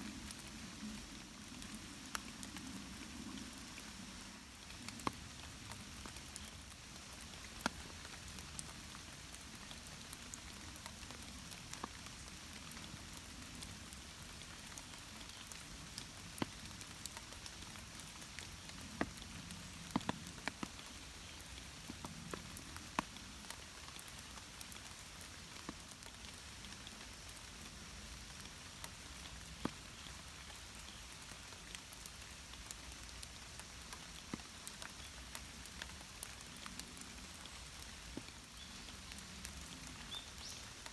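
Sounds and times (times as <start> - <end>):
rain hiss: 0.0 - 40.9
raindrop ticks: 4.6 - 40.9.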